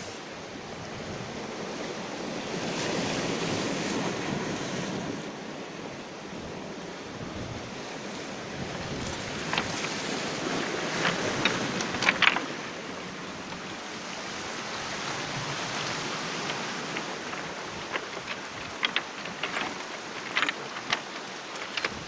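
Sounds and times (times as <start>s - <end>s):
waves washing over cobbles: 0.0s - 22.0s
wind buffeting microphone: 0.6s - 22.0s.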